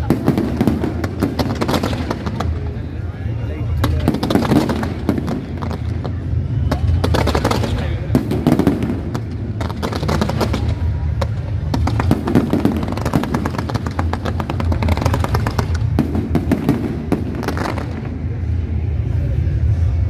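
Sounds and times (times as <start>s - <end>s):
fireworks crackling and popping: 0.0s - 18.5s
low rumble: 0.0s - 20.0s.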